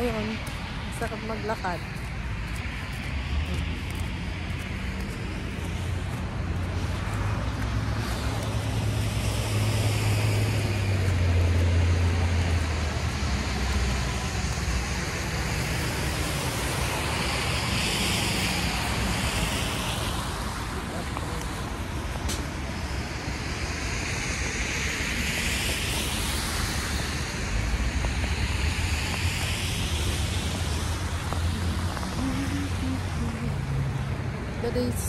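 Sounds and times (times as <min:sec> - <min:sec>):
passing vehicles rumbling: 0:00.0 - 0:35.0
tyres hissing on wet road: 0:00.2 - 0:35.0.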